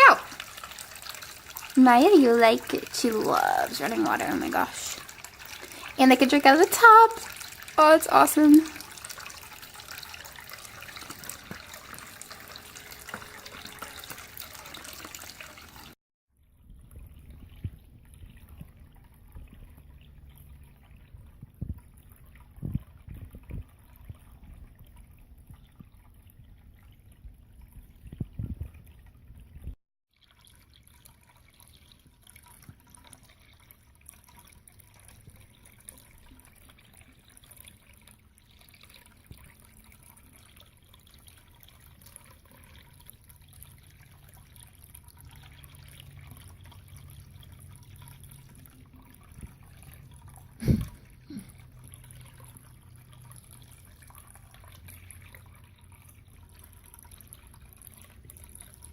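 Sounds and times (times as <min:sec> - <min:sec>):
water trickling and dripping: 0:00.0 - 0:58.9.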